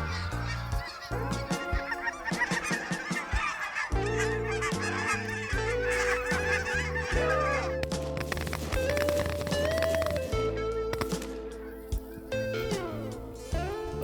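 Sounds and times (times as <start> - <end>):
geese honking: 0.0 - 14.0
music playing: 0.0 - 14.0.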